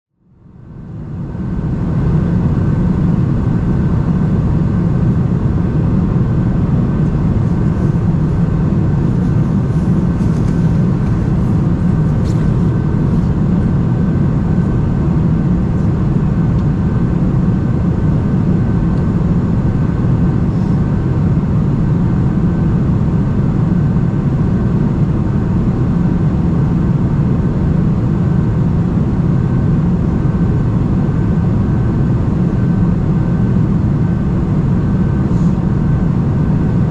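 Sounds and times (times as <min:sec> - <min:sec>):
airplane cabin engine rumble: 0:00.1 - 0:36.9.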